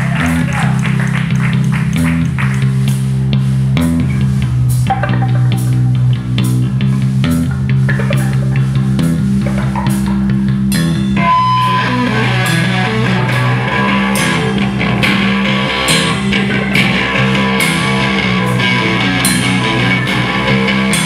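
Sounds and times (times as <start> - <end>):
bass guitar line: 0.0 - 21.0
drum kit hits: 0.0 - 21.0
electric guitar: 0.0 - 21.0.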